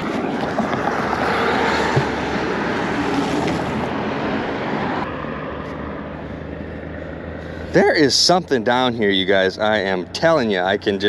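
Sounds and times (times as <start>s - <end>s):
low engine hum: 0.0s - 11.0s
road traffic rushing past: 0.0s - 11.0s.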